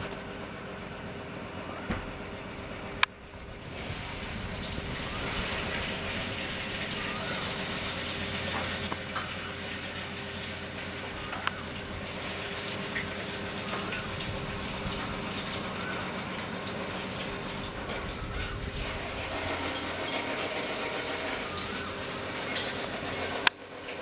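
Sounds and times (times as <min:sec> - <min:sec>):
background rumble and hiss: 0:00.0 - 0:20.0.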